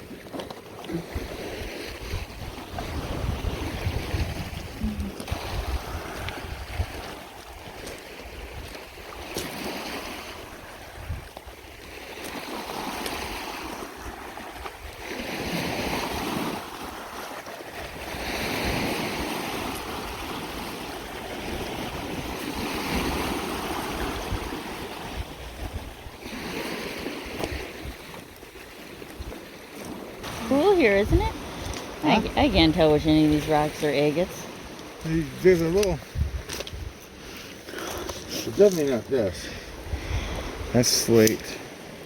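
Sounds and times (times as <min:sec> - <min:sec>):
waves washing onto rocky shore: 0:00.0 - 0:42.0
wind rumbling on microphone: 0:00.9 - 0:33.7, 0:34.4 - 0:37.2, 0:39.6 - 0:40.8.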